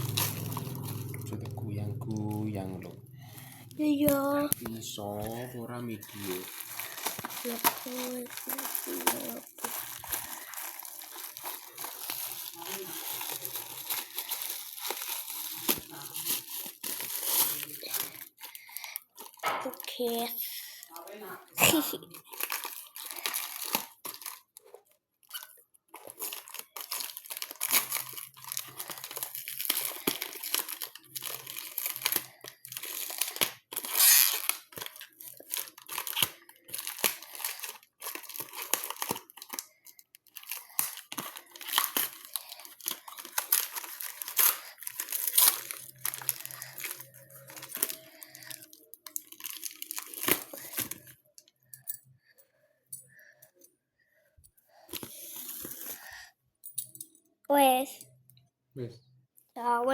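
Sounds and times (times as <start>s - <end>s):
packaging crackling and tearing: 0.0s - 21.0s, 22.0s - 51.2s.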